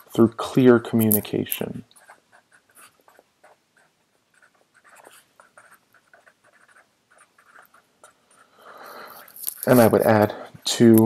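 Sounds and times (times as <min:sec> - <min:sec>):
pen scratching on paper: 0:00.0 - 0:10.8.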